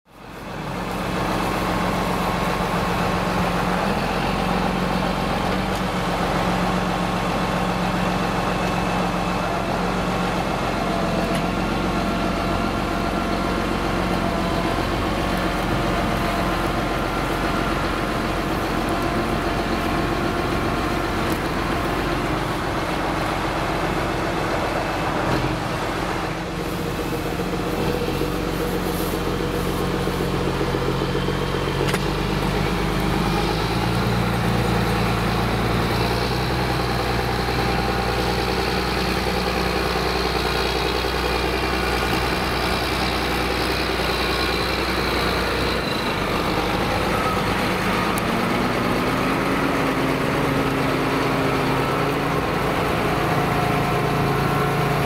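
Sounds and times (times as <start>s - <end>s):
tractor diesel engine running: 0.1s - 55.0s.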